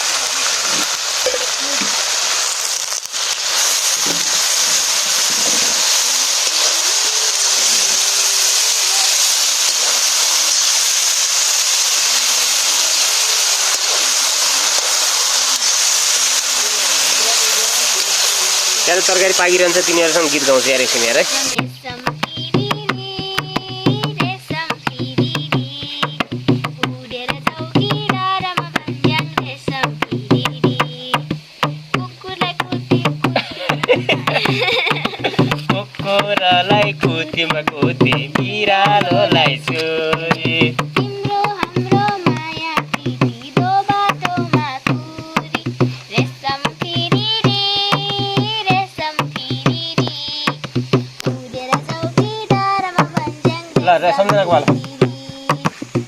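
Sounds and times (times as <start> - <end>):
folk melody: 0.0 - 56.0
hand drum beating fast rhythm: 3.8 - 14.8, 16.6 - 56.0.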